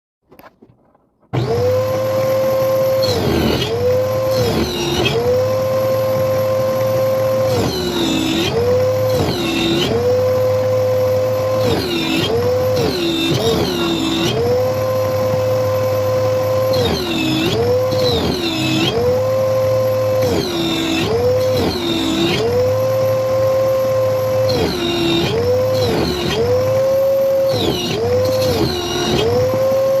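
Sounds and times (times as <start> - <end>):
power tool cutting wood: 1.3 - 30.0.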